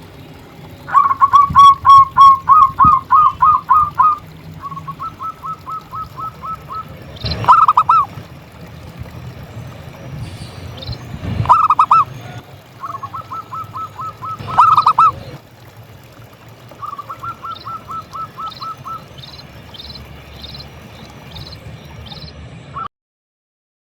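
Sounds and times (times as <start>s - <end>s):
doves cooing: 0.8s - 22.2s.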